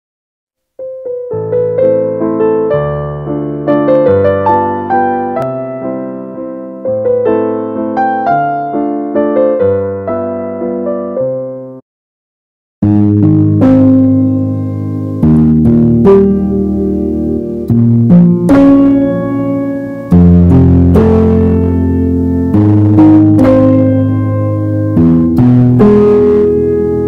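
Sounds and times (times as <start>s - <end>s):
electric piano notes and chords: 0.8s - 11.8s, 12.8s - 27.0s.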